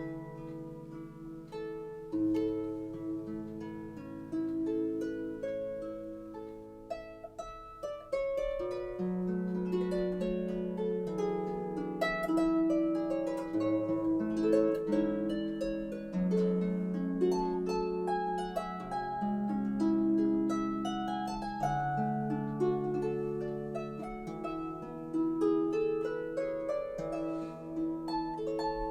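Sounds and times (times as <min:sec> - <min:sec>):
harp music: 0:00.0 - 0:28.9.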